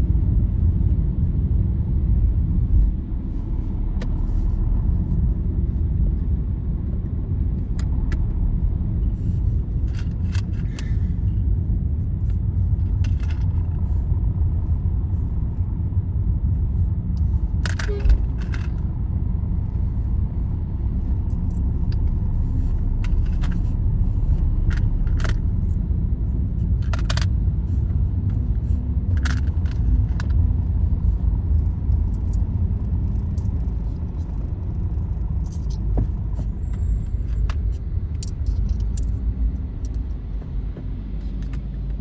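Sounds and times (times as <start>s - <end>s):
vehicle road rumble: 0.0s - 42.0s.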